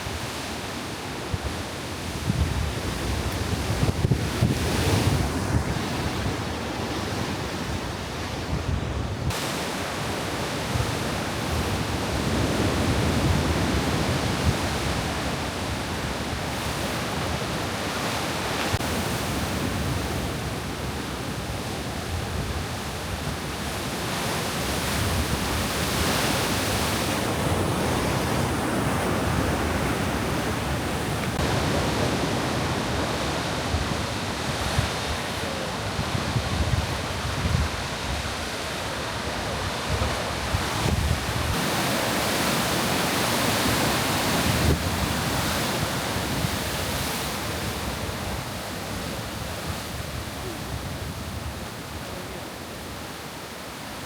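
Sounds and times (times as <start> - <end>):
ocean surf breaking on shore: 0.0 - 54.0
wind on microphone: 0.0 - 54.0.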